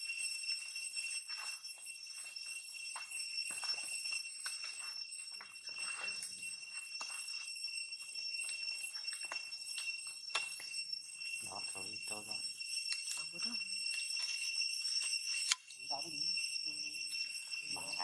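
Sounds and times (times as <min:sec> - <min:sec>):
high ringing tone: 0:00.0 - 0:18.0.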